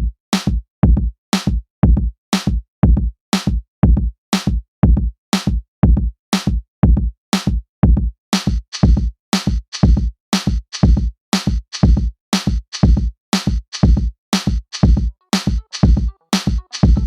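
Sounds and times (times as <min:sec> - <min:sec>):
electronic drum beat music: 0:00.0 - 0:17.0.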